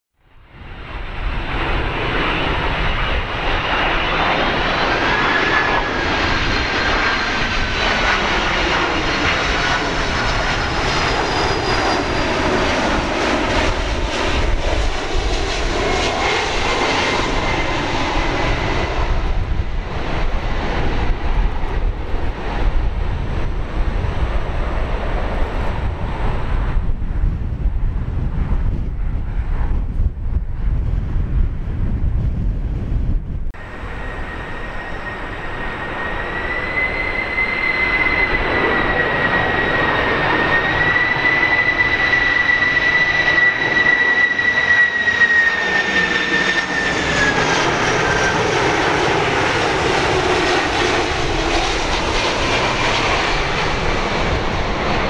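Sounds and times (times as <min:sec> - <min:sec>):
jet airliner passing: 0:00.2 - 0:55.0.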